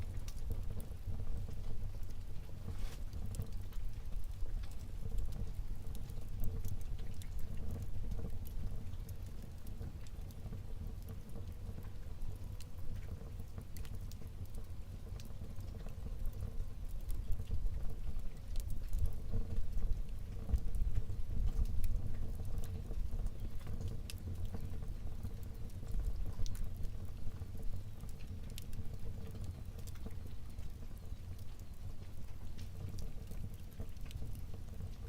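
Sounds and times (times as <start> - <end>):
flames rumbling: 0.0 - 35.0
wood fire crackling: 0.0 - 35.0.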